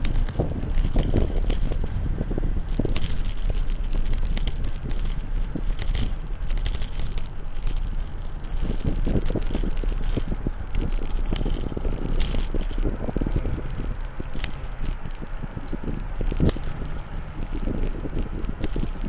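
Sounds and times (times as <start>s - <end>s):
bike rattling and clicking: 0.0s - 19.0s
wind buffeting microphone: 0.0s - 19.0s.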